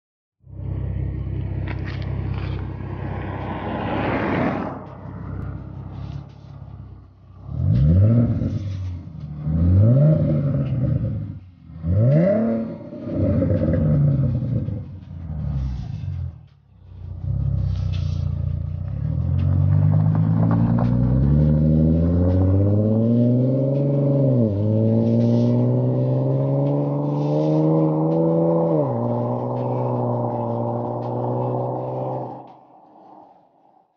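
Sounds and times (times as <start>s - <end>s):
car engine idling and revving: 0.4s - 33.8s
car accelerating hard: 0.6s - 33.7s.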